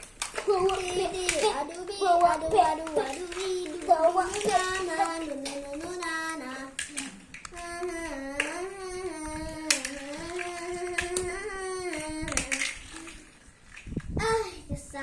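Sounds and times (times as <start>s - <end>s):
child singing wordless tune: 0.4s - 13.4s, 14.1s - 15.0s.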